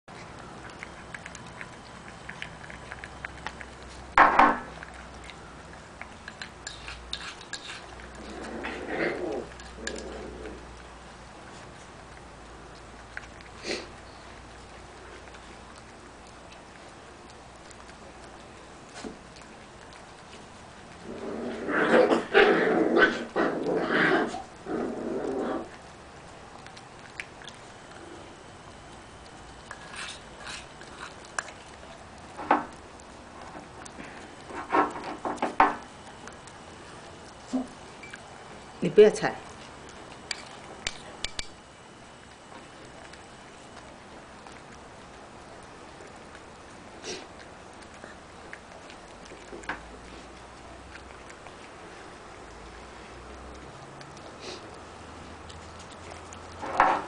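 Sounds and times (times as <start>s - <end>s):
puppies eating from bowls: 0.1s - 57.0s.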